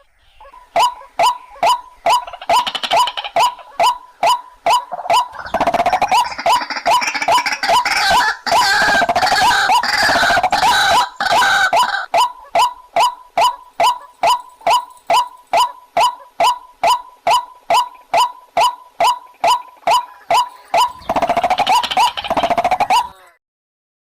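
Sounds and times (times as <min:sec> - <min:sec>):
short clipped bird calls: 0:00.0 - 0:23.4
waterhen chattering calls: 0:00.0 - 0:23.4.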